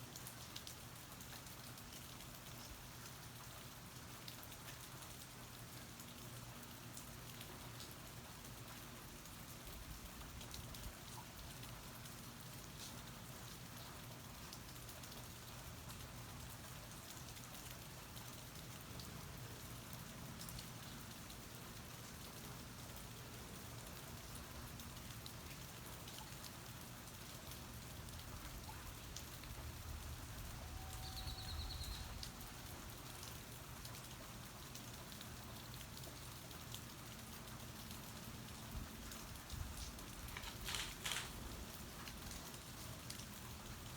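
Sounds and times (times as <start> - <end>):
steady rain falling: 0.0 - 43.9
water drips: 0.1 - 43.9.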